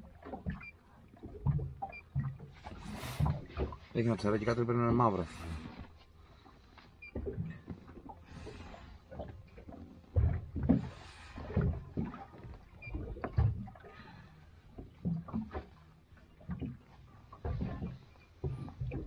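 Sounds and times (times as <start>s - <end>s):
waves slapping against boat hull: 0.0s - 19.0s.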